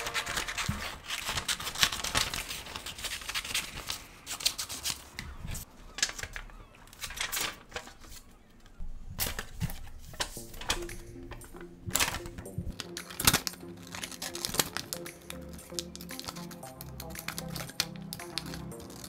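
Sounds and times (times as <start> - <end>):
paper rustling: 0.0 - 19.0
scissors snipping paper: 0.0 - 19.0.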